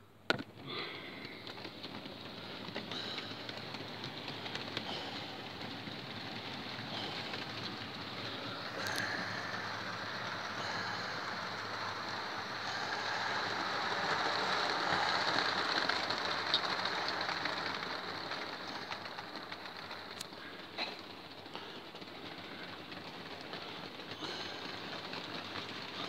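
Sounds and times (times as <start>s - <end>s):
model train wagons rattling: 0.0s - 26.0s.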